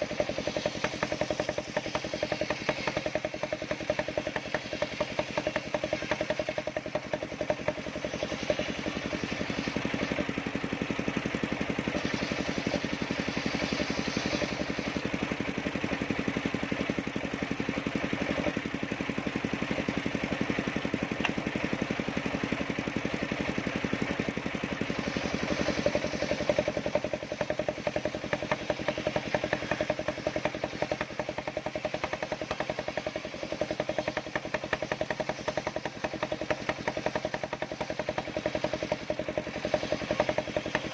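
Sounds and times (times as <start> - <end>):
engine chugging: 0.0 - 40.9
spinning saw blade whirring: 0.0 - 40.9.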